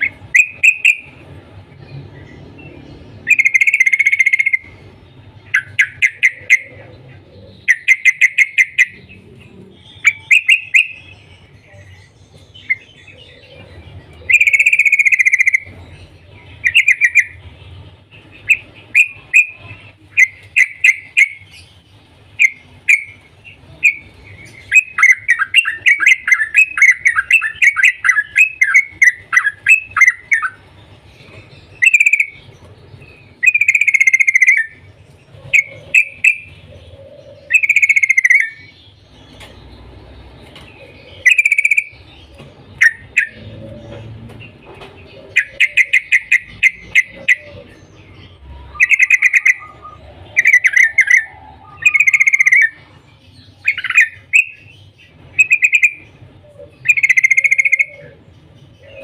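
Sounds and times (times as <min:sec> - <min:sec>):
bulbul singing: 0:00.0 - 0:59.0.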